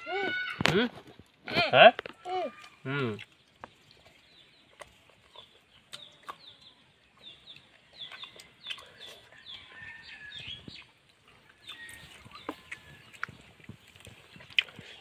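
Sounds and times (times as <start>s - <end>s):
people chewing and lip-smacking: 0.0s - 15.0s
birds chirping: 1.1s - 15.0s.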